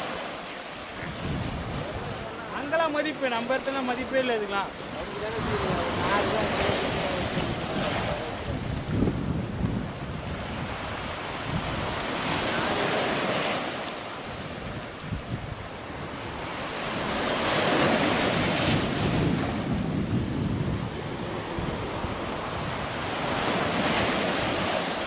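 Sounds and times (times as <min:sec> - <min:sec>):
sea surf washing on sand and rocks: 0:00.0 - 0:25.0
wind buffeting microphone: 0:00.9 - 0:02.7, 0:04.7 - 0:13.5, 0:14.2 - 0:25.0.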